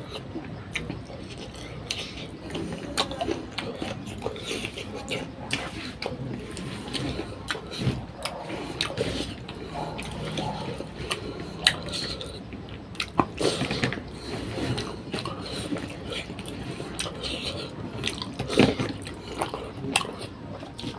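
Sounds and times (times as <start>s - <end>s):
person chewing: 0.0s - 20.9s.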